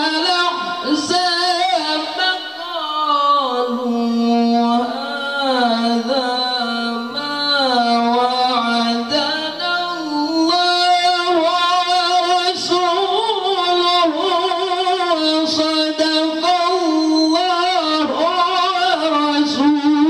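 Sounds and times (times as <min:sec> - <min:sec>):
man chanting through a microphone: 0:00.0 - 0:20.0.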